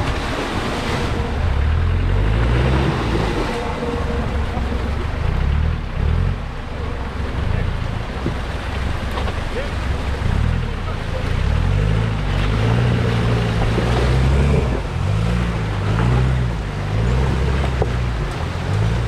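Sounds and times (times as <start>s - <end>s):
off-road vehicle engine revving: 0.0s - 19.0s
rushing water: 0.0s - 19.0s.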